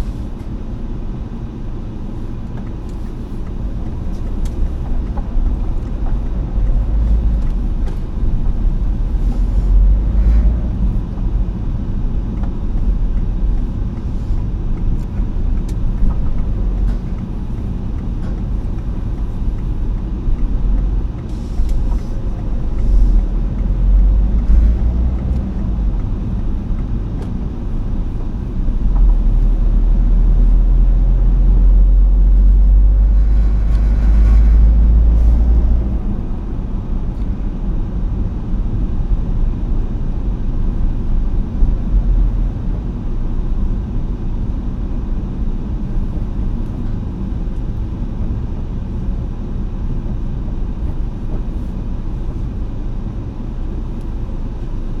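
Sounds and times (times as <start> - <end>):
vehicle driving rumble: 0.0 - 55.0.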